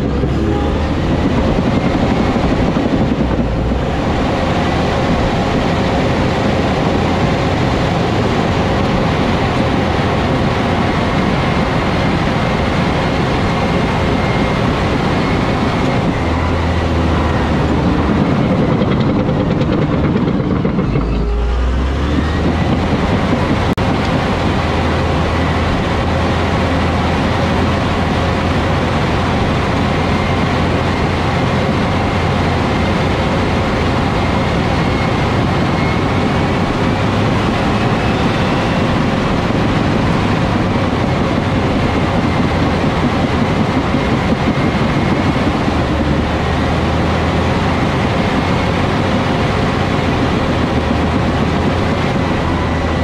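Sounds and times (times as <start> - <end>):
bulldozer diesel engine: 0.0 - 53.0
deep rumble: 0.0 - 53.0.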